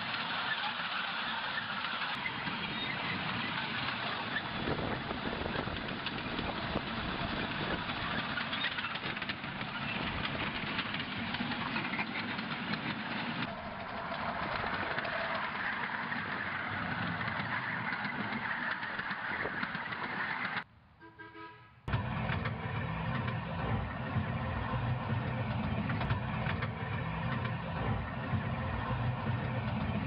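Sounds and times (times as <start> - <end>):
scale train rumbling: 0.0 - 20.6, 21.9 - 30.0
wheels clattering over rails: 0.0 - 20.6, 21.9 - 30.0.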